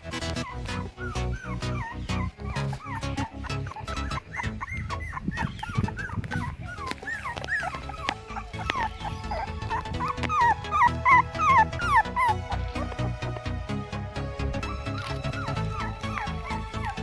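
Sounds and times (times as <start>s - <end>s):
background music with steady beat: 0.0s - 17.0s
puppies whimpering and yipping: 0.0s - 17.0s.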